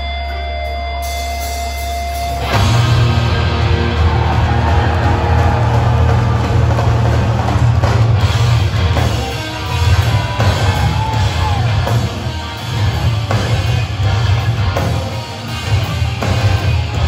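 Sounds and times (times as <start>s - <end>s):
distorted electric guitars: 0.0s - 17.0s
drums: 0.0s - 17.0s.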